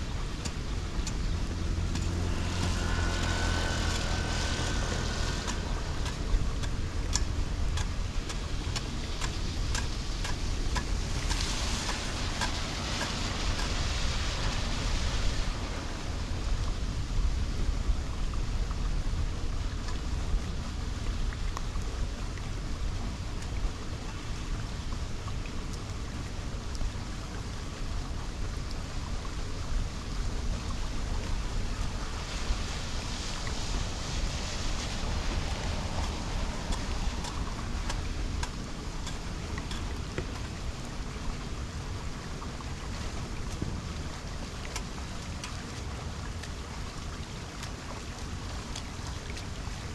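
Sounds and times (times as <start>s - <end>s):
rain on wet concrete road: 0.0s - 49.9s
wind rumble on microphone: 0.0s - 49.9s.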